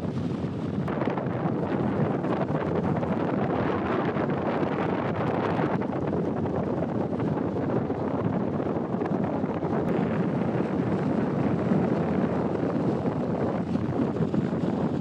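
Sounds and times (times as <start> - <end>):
boat running noise: 0.0 - 15.0
water: 0.0 - 15.0
wind buffeting microphone: 0.0 - 15.0.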